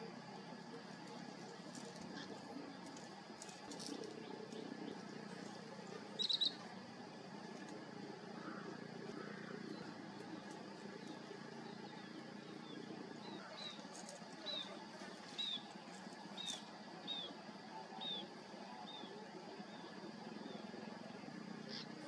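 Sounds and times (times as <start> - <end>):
low background noise: 0.0 - 22.0
bird calling: 0.8 - 20.7, 21.6 - 22.0.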